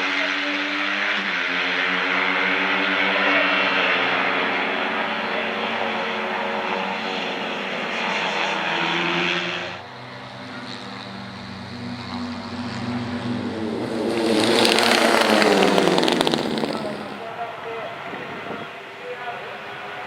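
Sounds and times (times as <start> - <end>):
racing motorcycles at high revs: 0.0 - 17.3.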